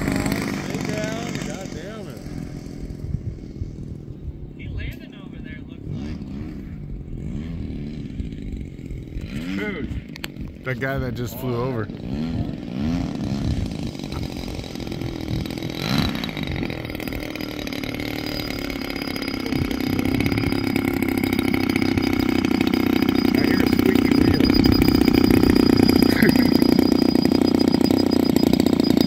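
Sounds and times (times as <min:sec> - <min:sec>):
model airplane engine running: 0:00.0 - 0:29.0.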